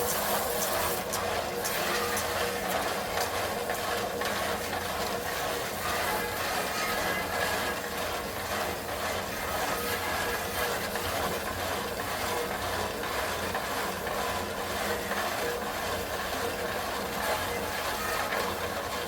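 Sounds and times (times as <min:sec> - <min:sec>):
concrete mixer churning: 0:00.0 - 0:19.0.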